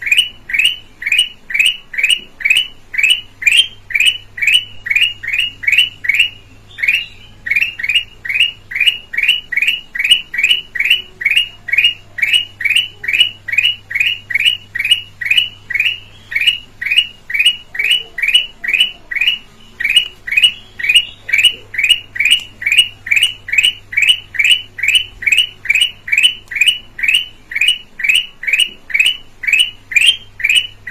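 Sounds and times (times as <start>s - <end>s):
bulbul calling: 0.0s - 30.9s
faint electrical hum: 0.0s - 30.9s.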